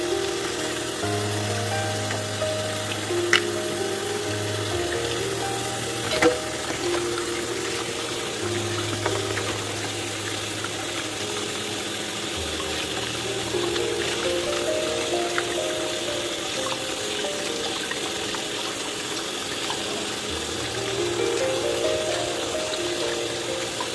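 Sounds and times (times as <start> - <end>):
background music of held notes: 0.0 - 23.9
tap water running and splashing: 0.0 - 23.9.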